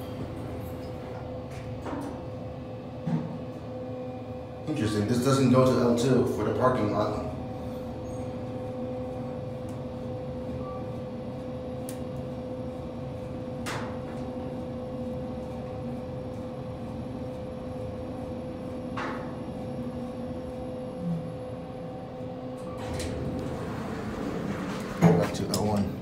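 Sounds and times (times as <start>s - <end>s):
elevator hum with steady tone: 0.0s - 26.0s.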